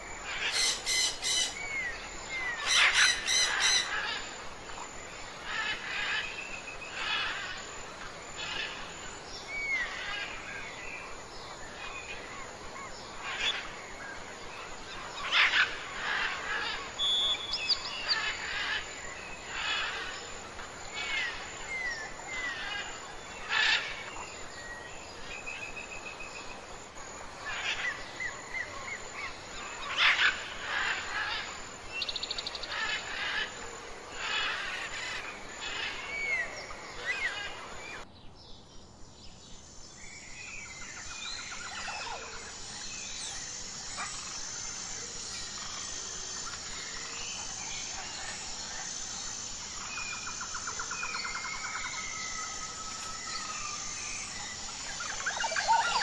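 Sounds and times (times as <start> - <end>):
birds calling and chirping: 0.0 - 56.0.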